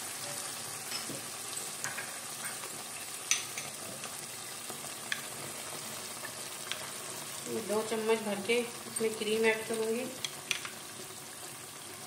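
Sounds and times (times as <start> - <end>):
gravy sizzling in a hot pan: 0.0 - 12.0.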